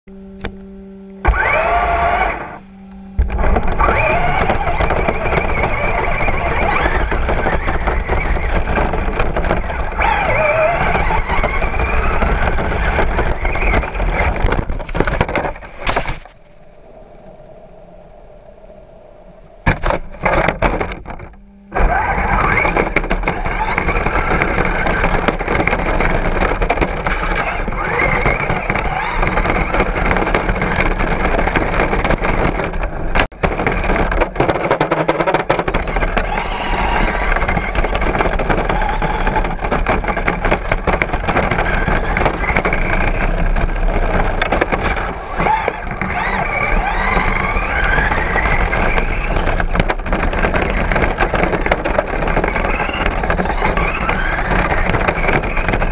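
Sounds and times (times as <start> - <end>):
electric motor whine: 0.1 - 33.9, 35.3 - 55.9.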